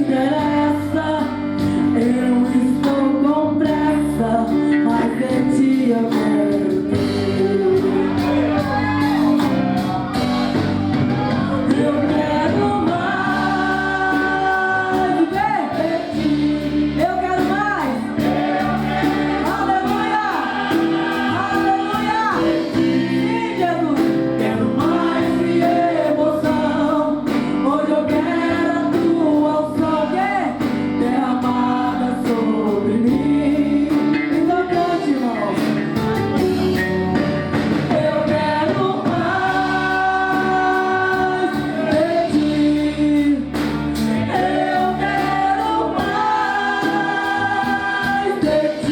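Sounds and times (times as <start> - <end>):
bass and chords accompaniment: 0.0 - 48.9
worship song singing: 0.0 - 48.9.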